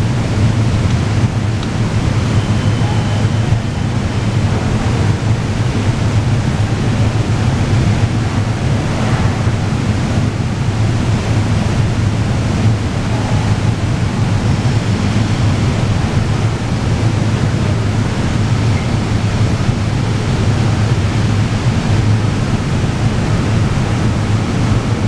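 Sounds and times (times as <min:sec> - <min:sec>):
low rumble and hiss: 0:00.0 - 0:25.0
strong low hum: 0:00.0 - 0:25.0.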